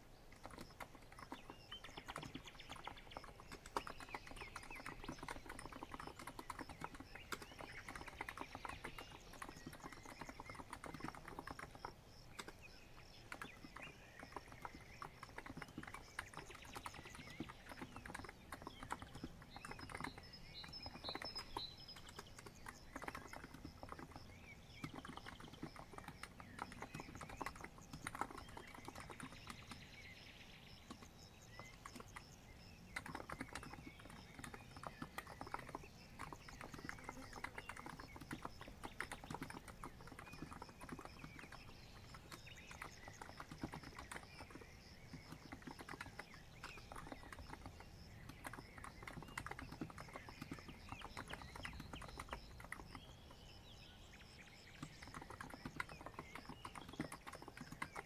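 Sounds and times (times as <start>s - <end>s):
faint bird chirps: 0.0s - 58.0s.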